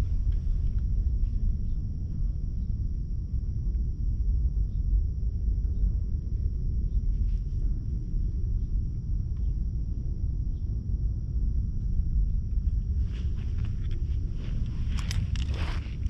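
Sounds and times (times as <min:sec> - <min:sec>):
wind buffeting microphone: 0:00.0 - 0:03.3, 0:04.3 - 0:16.0.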